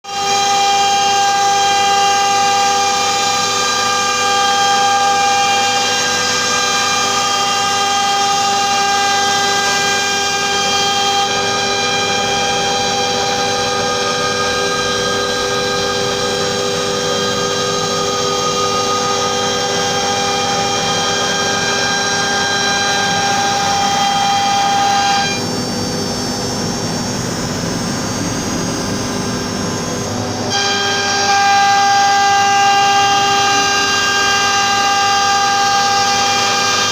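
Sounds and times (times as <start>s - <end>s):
cnc router spindle whine: 0.0s - 36.9s
router cutting wood: 0.0s - 36.9s.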